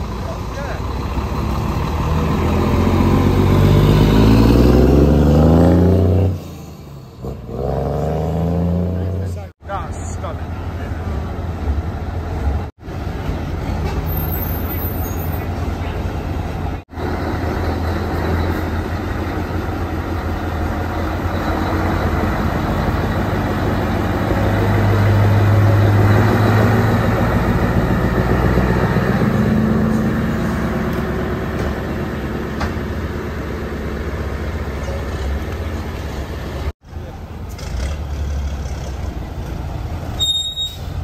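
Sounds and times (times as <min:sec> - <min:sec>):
diesel truck engine passing: 0:00.0 - 0:14.6, 0:15.3 - 0:41.0.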